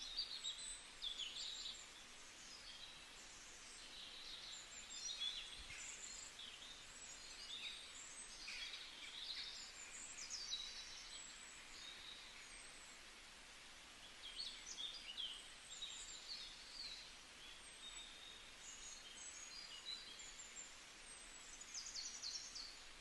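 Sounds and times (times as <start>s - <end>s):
small birds chirping and singing: 0.0s - 23.0s
steady background hiss: 0.0s - 23.0s.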